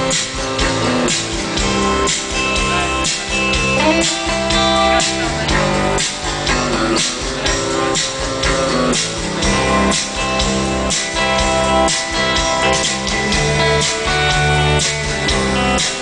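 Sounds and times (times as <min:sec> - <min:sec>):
drum beat: 0:00.0 - 0:16.0
electric bass: 0:00.0 - 0:16.0
electric guitar: 0:00.0 - 0:16.0
keyboard: 0:00.0 - 0:16.0.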